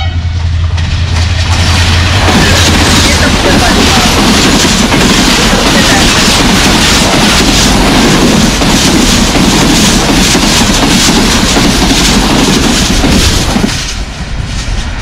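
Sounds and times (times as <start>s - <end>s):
train coaches rushing past: 0.0s - 15.0s
wheels clattering over rail joints: 0.7s - 14.1s.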